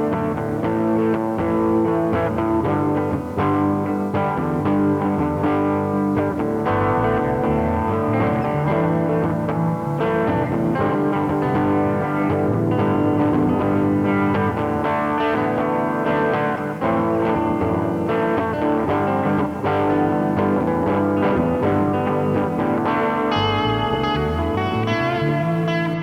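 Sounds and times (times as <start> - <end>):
guitar-led instrumental music: 0.0 - 26.0.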